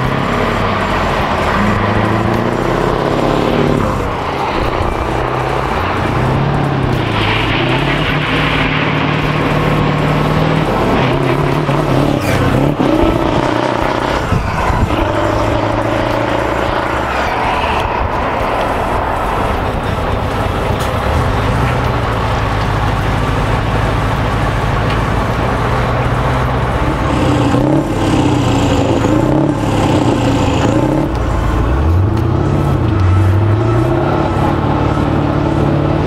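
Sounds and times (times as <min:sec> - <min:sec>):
truck engines driving past: 0:00.0 - 0:36.0.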